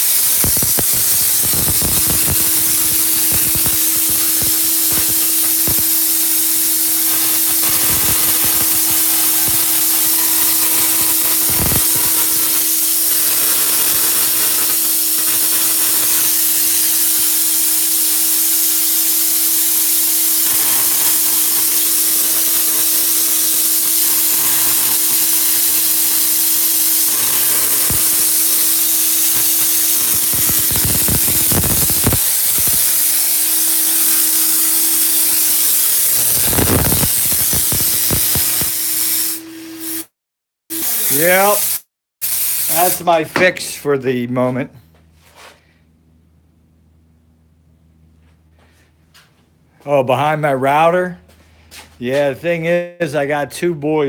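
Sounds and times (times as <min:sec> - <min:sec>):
tesla coil hissing buzz: 0:00.0 - 0:43.9.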